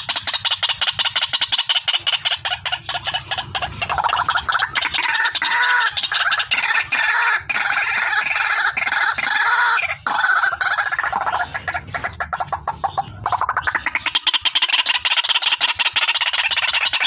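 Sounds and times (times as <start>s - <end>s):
waterhen calling rapidly: 0.0s - 17.0s.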